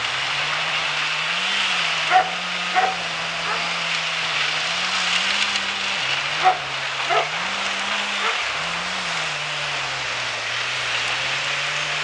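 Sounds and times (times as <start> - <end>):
wood chipper grinding: 0.0 - 12.0.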